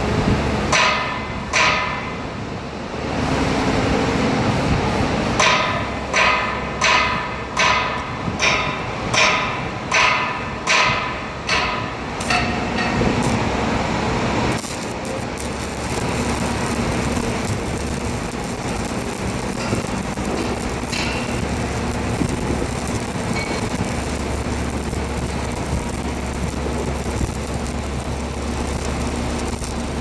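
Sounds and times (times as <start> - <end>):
machine running noise: 0.0 - 30.0
hammer striking steel: 0.7 - 2.2, 5.4 - 29.7.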